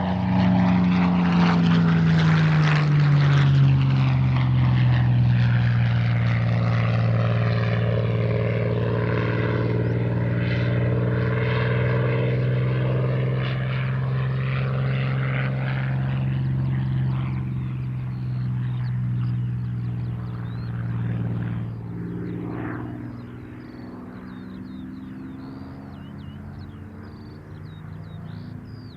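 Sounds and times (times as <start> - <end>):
propeller plane engine droning: 0.0 - 28.9.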